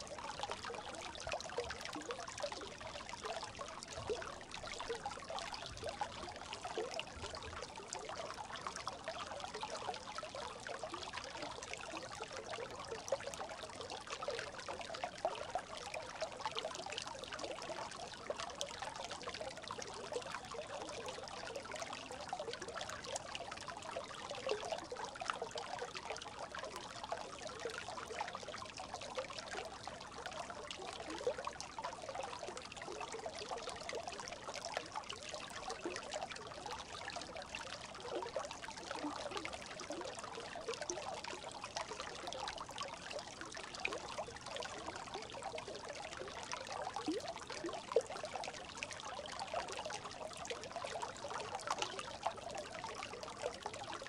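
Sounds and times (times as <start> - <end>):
brook babbling: 0.0 - 54.0.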